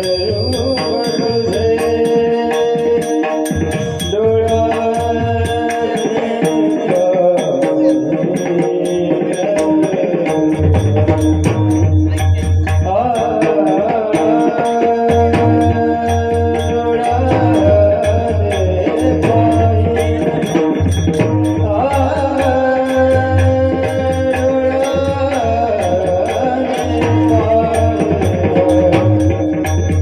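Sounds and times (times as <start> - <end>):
lead voice singing: 0.0 - 11.5, 12.1 - 29.9
hand drum: 0.0 - 30.0
held accompanying tones: 0.0 - 30.0.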